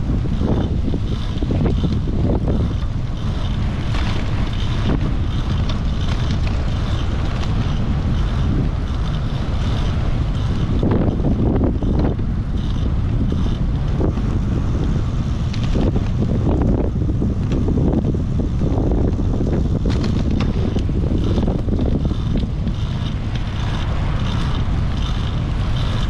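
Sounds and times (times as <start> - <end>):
tyres rolling on wet asphalt: 0.0 - 26.0
wind buffeting microphone: 0.0 - 26.0.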